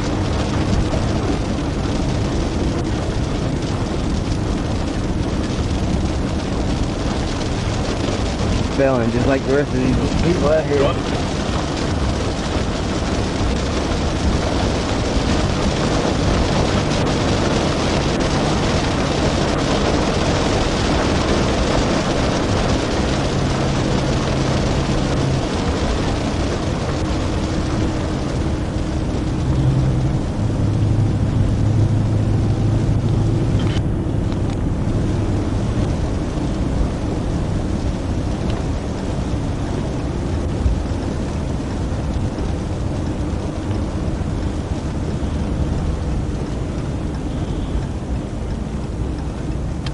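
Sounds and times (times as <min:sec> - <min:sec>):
car engine hum: 0:00.0 - 0:49.9
road and wind noise: 0:00.0 - 0:49.9.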